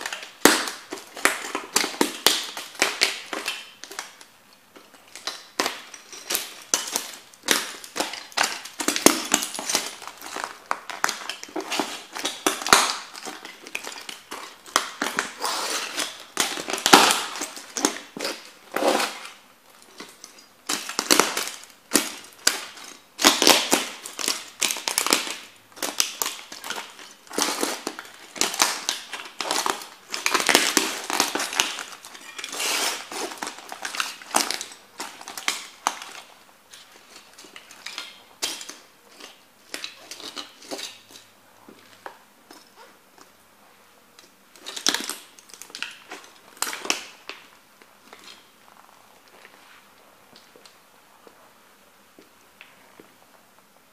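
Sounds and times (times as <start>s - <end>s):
plastic cracking under boots: 0.0s - 43.3s, 44.2s - 49.6s.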